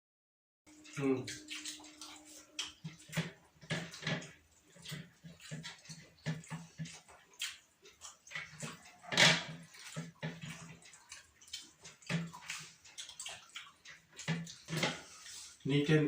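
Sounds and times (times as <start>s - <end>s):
wet chewing and lip-smacking: 0.7s - 15.6s.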